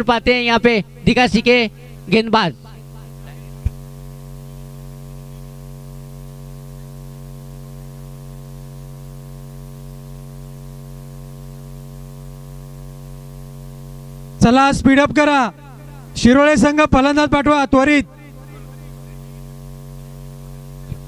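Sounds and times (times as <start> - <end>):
electrical mains hum and buzz: 0.0 - 21.0.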